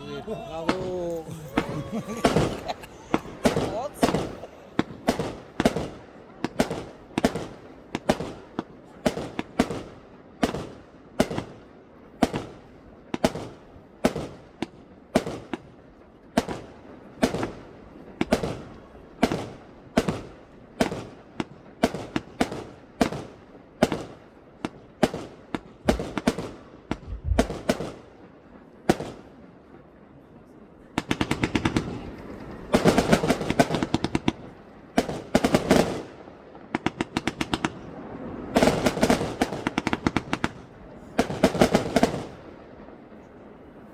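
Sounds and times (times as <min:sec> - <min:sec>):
fireworks exploding: 0:00.0 - 0:43.9.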